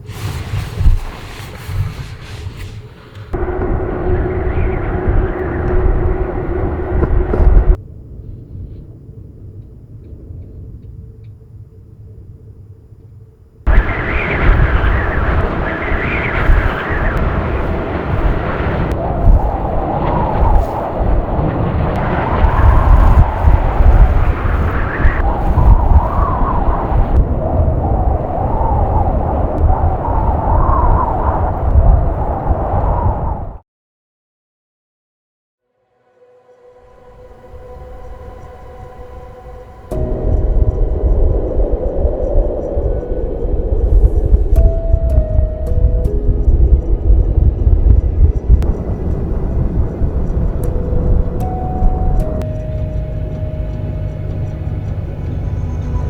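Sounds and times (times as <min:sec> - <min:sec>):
gusting wind on microphone: 0:00.0 - 0:13.0, 0:13.6 - 0:33.6, 0:36.9 - 0:56.0
low rumble: 0:00.0 - 0:33.2, 0:36.6 - 0:56.0.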